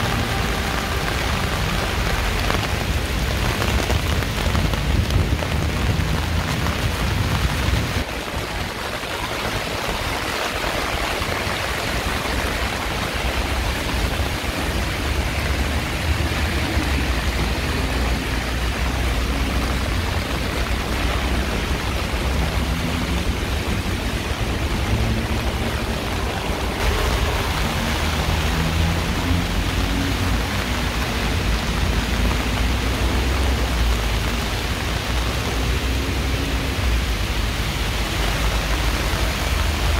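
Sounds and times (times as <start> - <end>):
heavy rain hissing: 0.0 - 39.9
low traffic rumble: 0.0 - 39.9.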